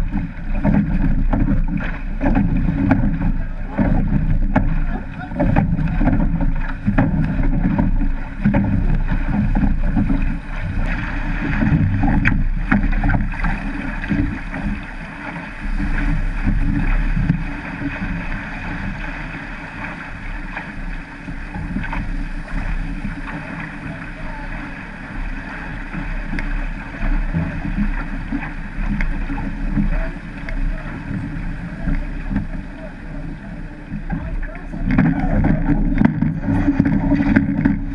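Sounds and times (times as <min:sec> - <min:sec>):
sharp hits from oars: 0:00.0 - 0:37.9
water rushing and splashing: 0:00.0 - 0:37.9
wind buffeting microphone: 0:00.0 - 0:37.9.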